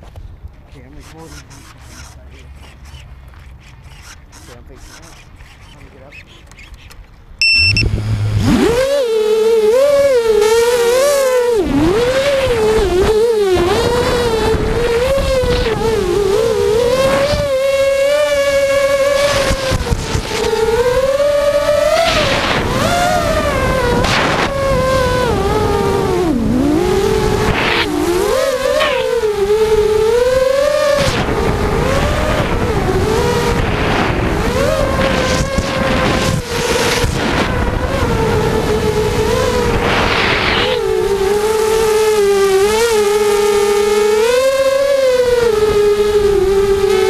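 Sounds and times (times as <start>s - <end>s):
drone motors whining: 0.7s - 47.0s
rushes of wind: 7.7s - 47.0s.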